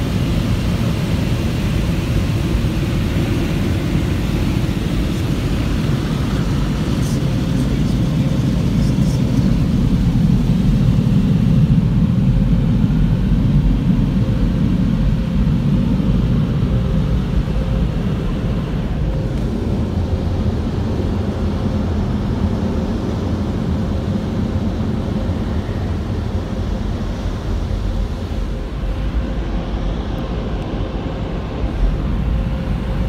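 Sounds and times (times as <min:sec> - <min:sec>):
muffled car wash machinery rumble: 0:00.0 - 0:33.0.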